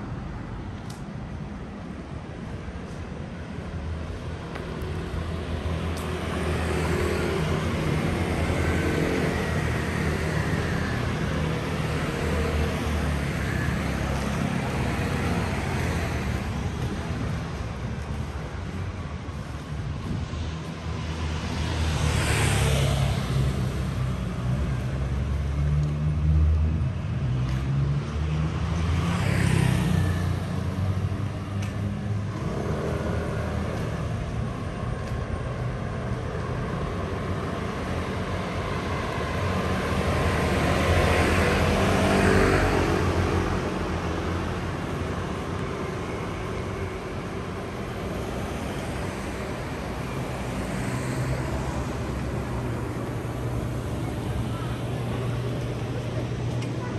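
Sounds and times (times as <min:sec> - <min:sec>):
vehicles passing close by: 0:00.0 - 0:56.9.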